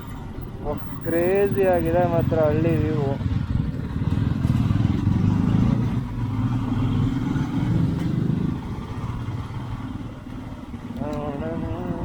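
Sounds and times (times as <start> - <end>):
motorcycle engine running: 0.2 - 12.0.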